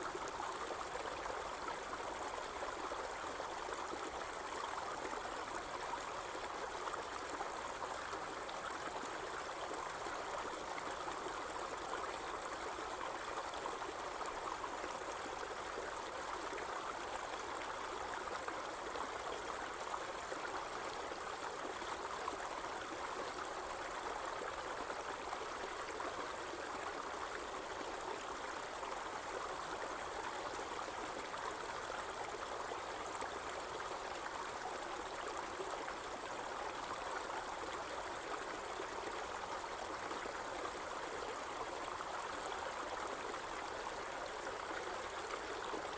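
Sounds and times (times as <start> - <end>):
water flowing steadily: 0.0 - 45.9.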